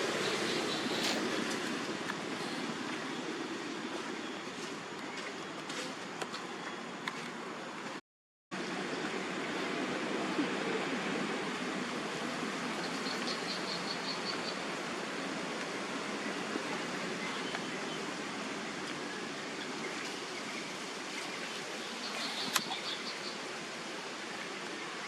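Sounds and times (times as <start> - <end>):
steady rushing outdoor noise: 0.0 - 25.0.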